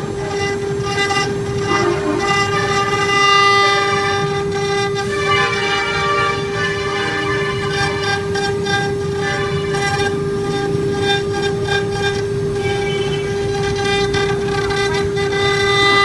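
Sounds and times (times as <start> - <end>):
machining noise: 0.0 - 16.0
router spindle whine: 0.0 - 16.0.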